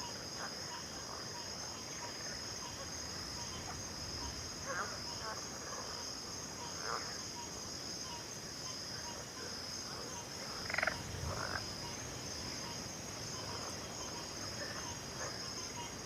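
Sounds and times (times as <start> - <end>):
frogs croaking: 0.0 - 16.0
high insect trill: 0.0 - 16.0.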